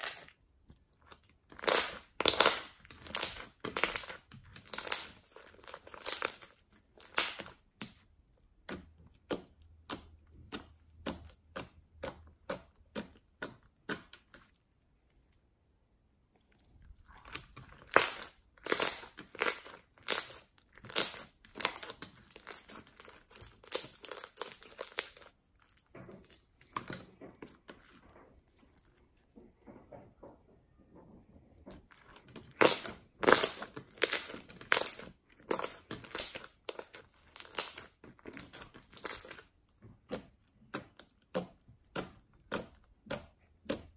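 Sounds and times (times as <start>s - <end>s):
slime squishing with sticky pops: 0.0s - 14.8s, 16.6s - 29.0s, 31.7s - 43.9s.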